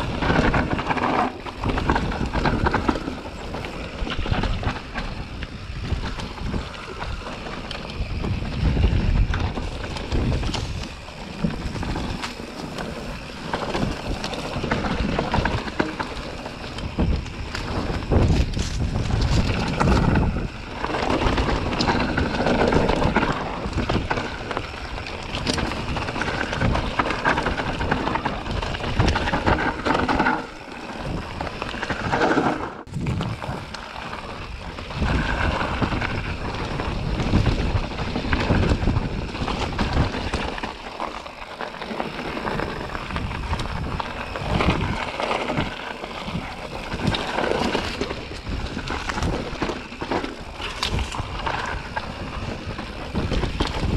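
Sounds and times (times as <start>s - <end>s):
wind buffeting microphone: 0.0s - 32.2s, 32.8s - 53.9s
bike rattles and knocks: 0.0s - 53.9s
bike tyres rolling over dirt: 0.0s - 53.9s.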